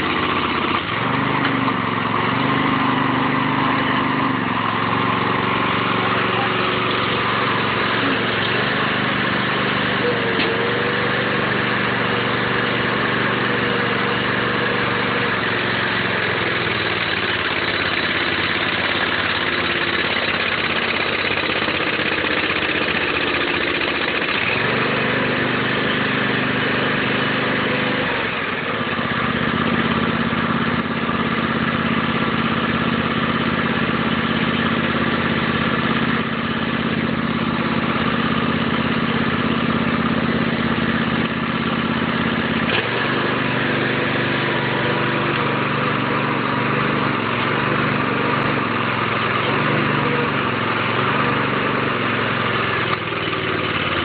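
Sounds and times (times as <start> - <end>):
log splitter engine running: 0.0 - 54.0.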